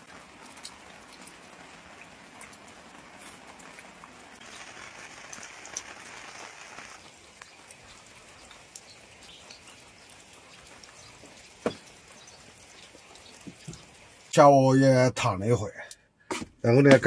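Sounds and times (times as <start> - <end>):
rain falling: 0.0 - 15.2.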